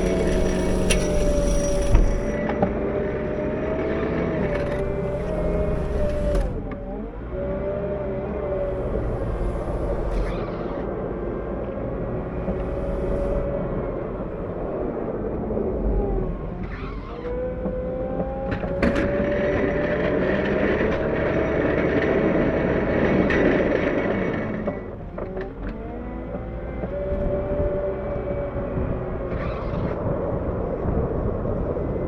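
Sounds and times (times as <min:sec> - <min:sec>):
loader diesel engine running hard: 0:00.0 - 0:32.0.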